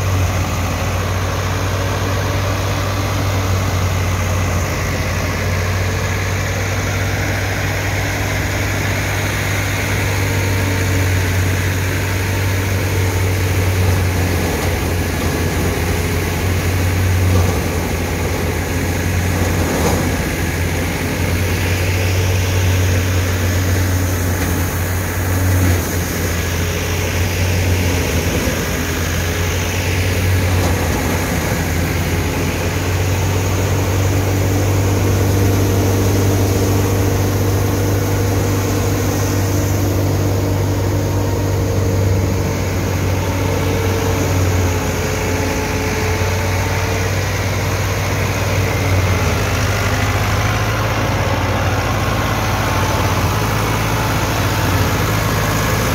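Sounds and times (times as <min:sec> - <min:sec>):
tractor diesel engine running: 0:00.0 - 0:55.9
thresher drum whirring: 0:02.2 - 0:55.9.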